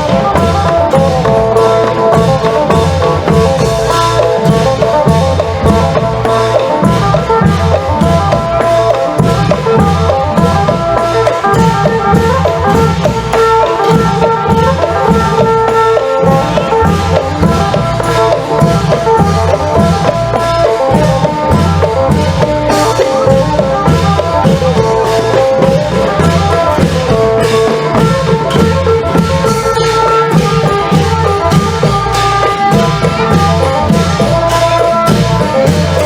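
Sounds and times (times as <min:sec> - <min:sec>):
long drums beating: 0:00.0 - 0:36.0
lute melody: 0:00.0 - 0:36.0
sharp percussion strokes: 0:00.0 - 0:36.0.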